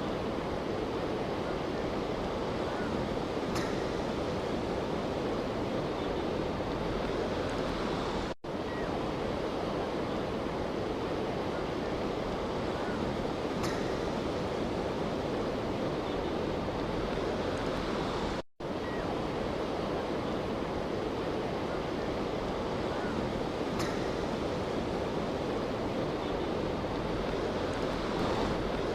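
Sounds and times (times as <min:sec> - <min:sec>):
wind and waves: 0:00.0 - 0:28.9.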